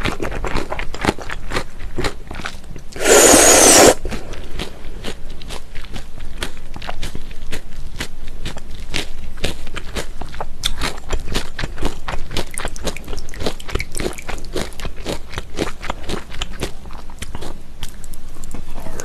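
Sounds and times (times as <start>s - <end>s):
close-miked chewing: 0.0s - 19.0s.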